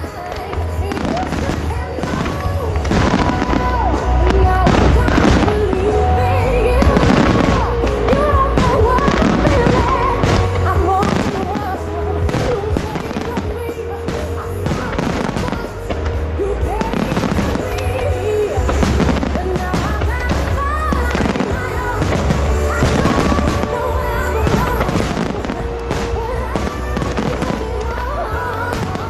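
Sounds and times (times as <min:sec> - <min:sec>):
fireworks bangs and crackles: 0:00.0 - 0:29.0
music playing: 0:00.0 - 0:29.0.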